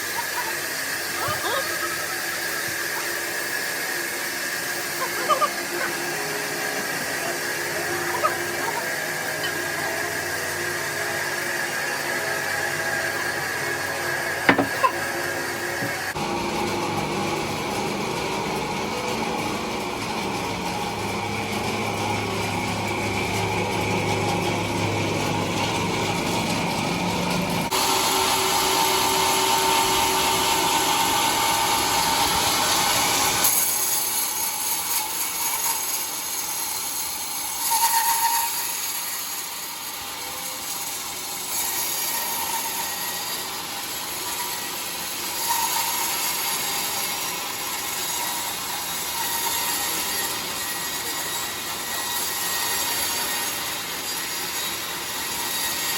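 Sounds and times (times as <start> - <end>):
sawmill saw cutting log: 0.0 - 55.9.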